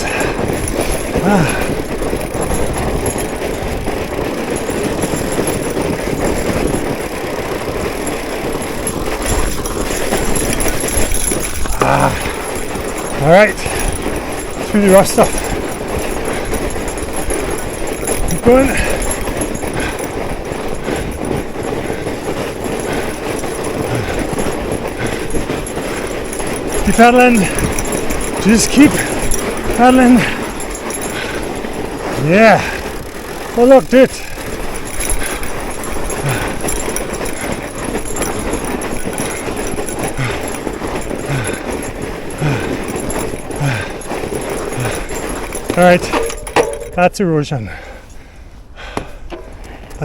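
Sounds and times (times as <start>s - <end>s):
bike rattling over bumps: 0.0s - 50.0s
tyres crunching on snow: 0.0s - 50.0s.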